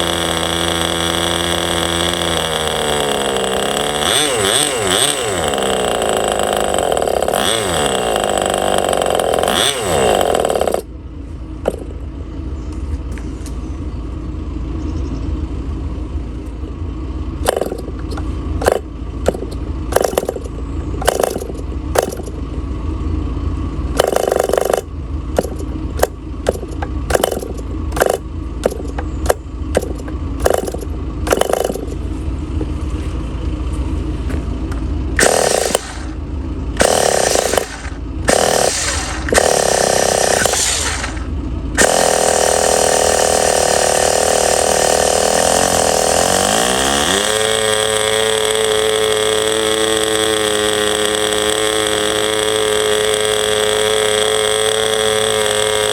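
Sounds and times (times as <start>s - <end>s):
model glow engine running: 0.0s - 11.0s, 11.6s - 12.0s, 17.4s - 22.6s, 23.9s - 32.1s, 35.1s - 55.9s.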